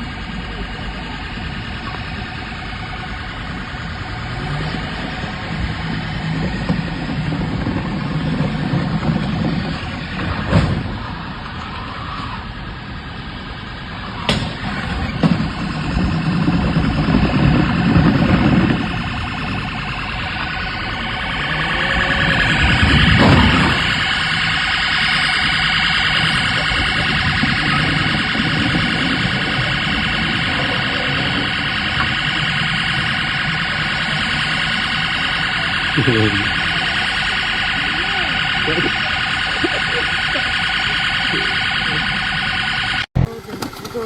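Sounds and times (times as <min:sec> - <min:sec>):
electronic siren: 0:00.0 - 0:43.6
vehicle noise: 0:00.0 - 0:44.0.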